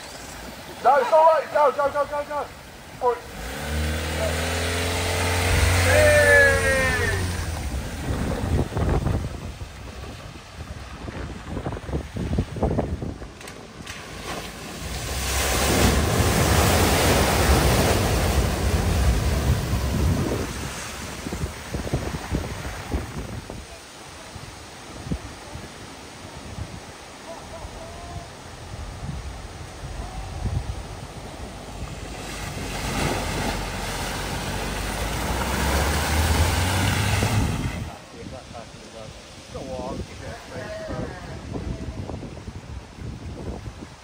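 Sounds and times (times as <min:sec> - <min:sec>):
floodwater surging and splashing: 0:00.0 - 0:44.0.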